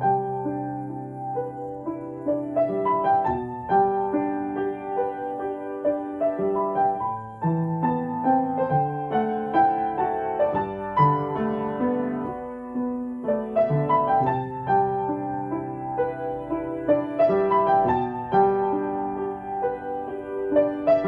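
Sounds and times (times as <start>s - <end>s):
solo piano playing: 0.0s - 21.0s.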